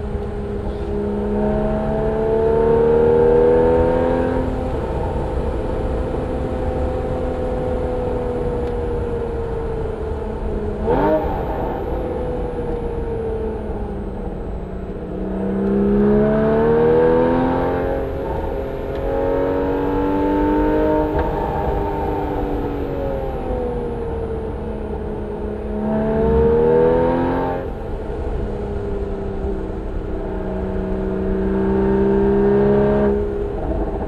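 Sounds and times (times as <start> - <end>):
sports car engine revving: 0.0 - 34.0.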